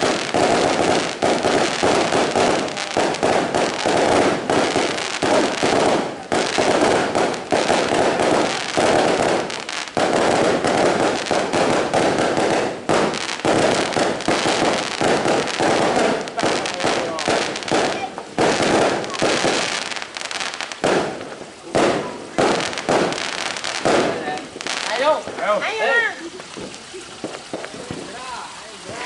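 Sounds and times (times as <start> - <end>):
fireworks popping and crackling: 0.0 - 29.0.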